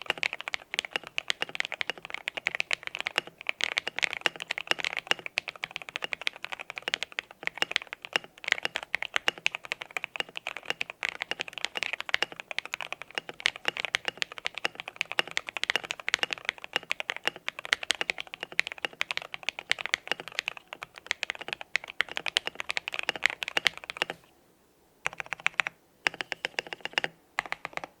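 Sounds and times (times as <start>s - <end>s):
mechanical keyboard typing: 0.0s - 24.2s, 25.0s - 28.0s.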